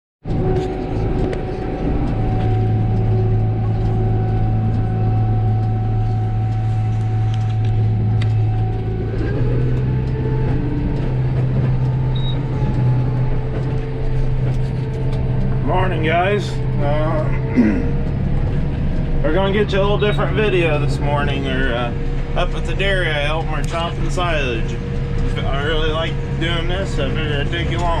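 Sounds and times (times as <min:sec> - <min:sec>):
tractor diesel engine running: 0:00.3 - 0:28.0.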